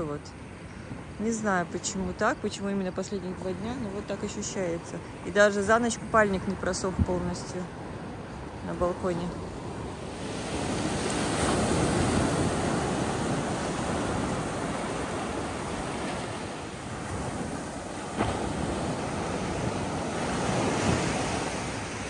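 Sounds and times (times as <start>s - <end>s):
waves washing onto beach: 2.6s - 22.0s.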